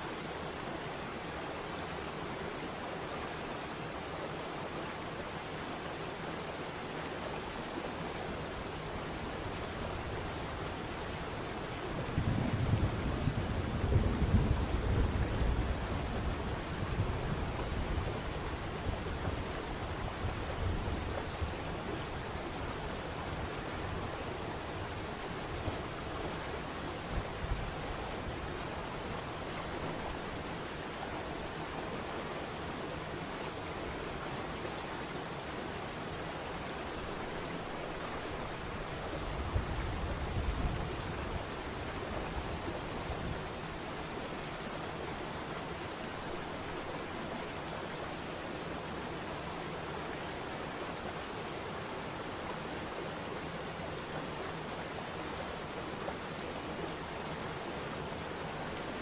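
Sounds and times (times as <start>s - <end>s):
waterfall rushing water: 0.0s - 12.2s, 14.6s - 59.0s.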